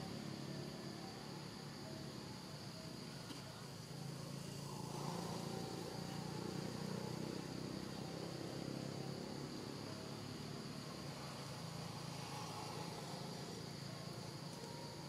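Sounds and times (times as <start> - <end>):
faint insect drone: 0.0 - 15.0.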